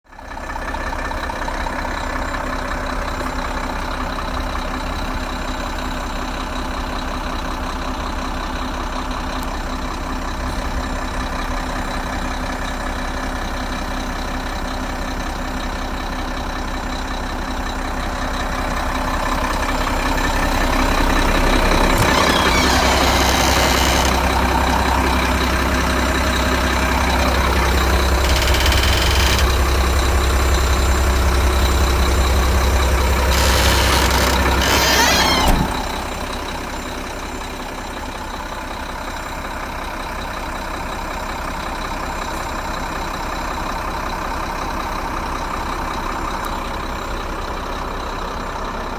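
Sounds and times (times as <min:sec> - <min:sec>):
diesel truck engine idling: 0:00.1 - 0:48.9.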